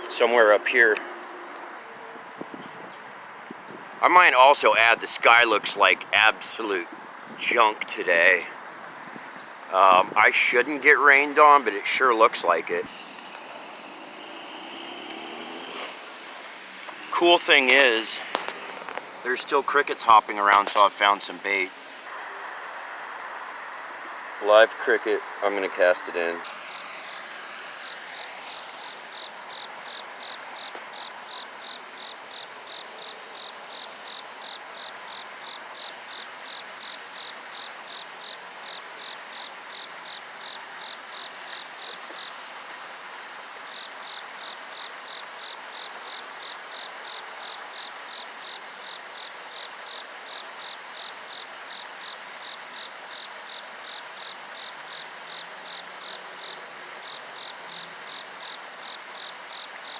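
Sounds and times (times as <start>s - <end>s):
background hiss: 0.0s - 59.9s
cricket chirping: 0.0s - 59.9s.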